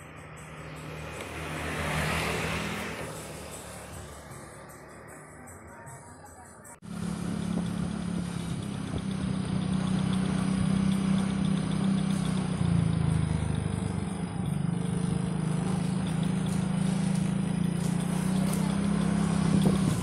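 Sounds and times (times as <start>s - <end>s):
scooter engine running: 0.0s - 6.2s, 6.8s - 20.0s
road and wind noise: 0.0s - 20.0s.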